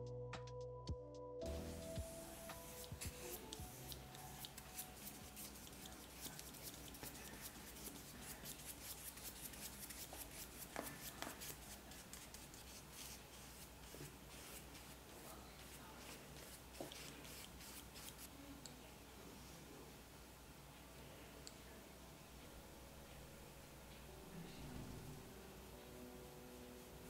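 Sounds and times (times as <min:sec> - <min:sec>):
paintbrush strokes on paper: 0:01.4 - 0:19.8, 0:23.1 - 0:27.0.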